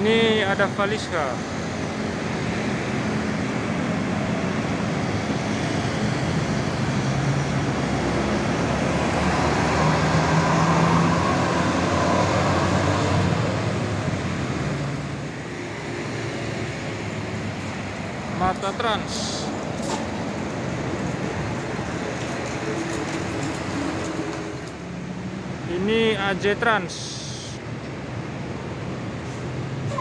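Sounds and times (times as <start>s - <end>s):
motorcycles and cars passing: 0.0s - 26.1s
bus diesel engine passing: 0.0s - 30.0s.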